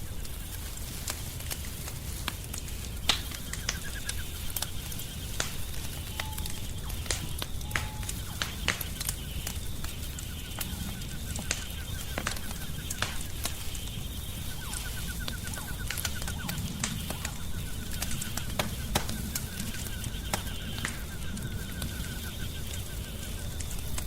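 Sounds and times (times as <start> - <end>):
steady low rumble: 0.0 - 24.0
wood fire crackling and popping: 0.0 - 24.0.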